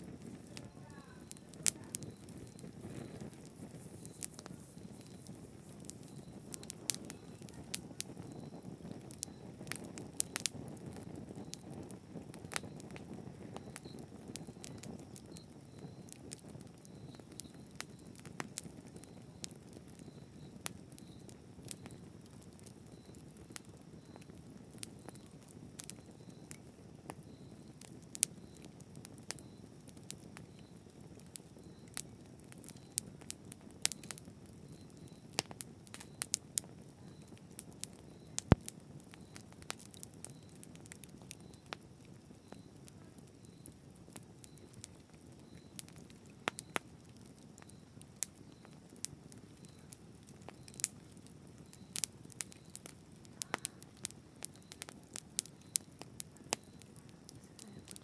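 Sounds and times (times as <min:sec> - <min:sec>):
campfire flames rumbling: 0:00.0 - 0:58.0
fire crackles and pops: 0:00.0 - 0:58.0.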